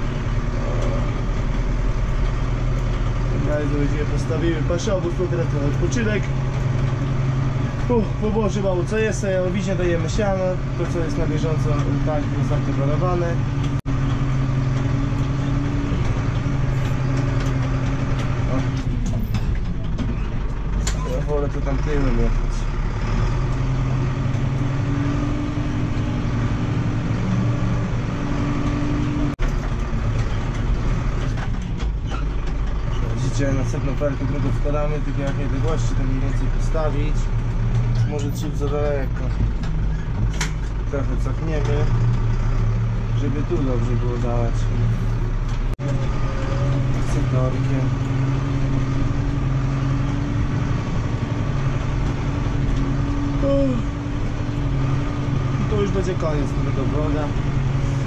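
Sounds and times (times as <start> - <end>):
tractor diesel engine hum: 0.0 - 58.0.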